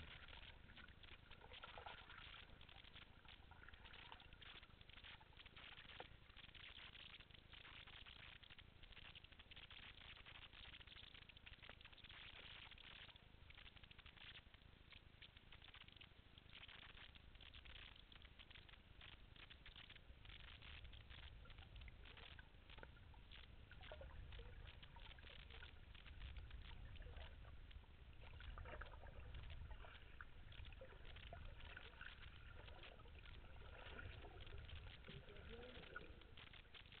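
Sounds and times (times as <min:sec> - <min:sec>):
muffled underwater rumble: 0:00.0 - 0:37.0
tiny underwater clicks and crackles: 0:00.0 - 0:37.0.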